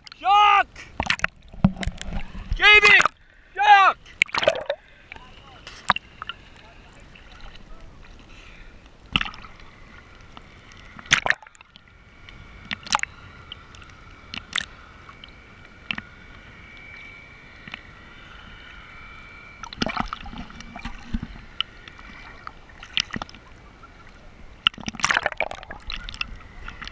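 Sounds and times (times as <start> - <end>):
water splashing: 0.0 - 26.9.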